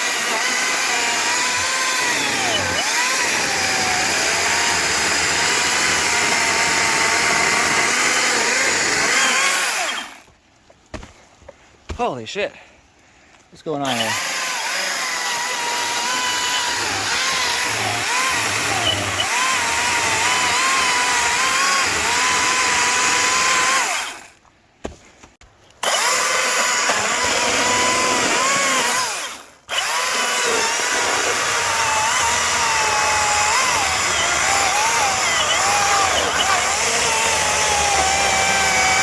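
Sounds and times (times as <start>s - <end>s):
electric chainsaw cutting wood: 0.0s - 10.3s, 13.8s - 24.4s, 25.8s - 39.0s.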